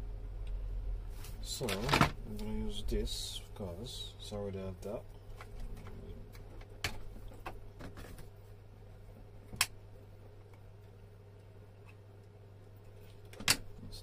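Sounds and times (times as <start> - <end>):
room fan humming: 0.0 - 14.0.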